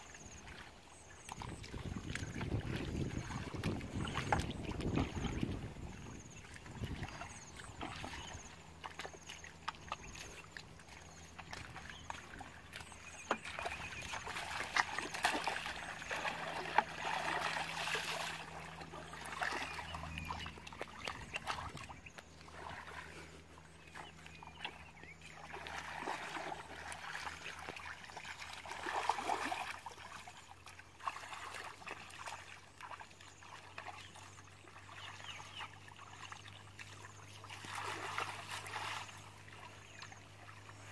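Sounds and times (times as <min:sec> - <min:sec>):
hands sloshing through muddy water: 0:00.0 - 0:40.9
small water splashes: 0:00.0 - 0:40.9.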